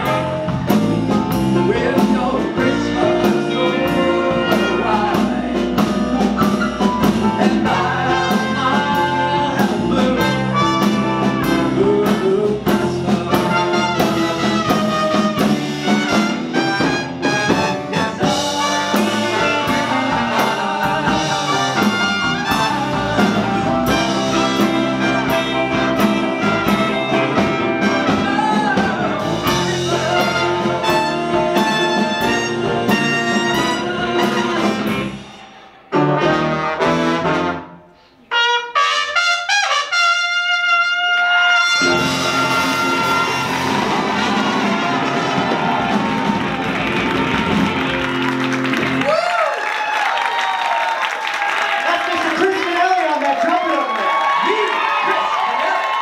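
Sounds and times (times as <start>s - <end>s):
funky live band instrumental: 0.0s - 37.7s, 41.2s - 49.2s.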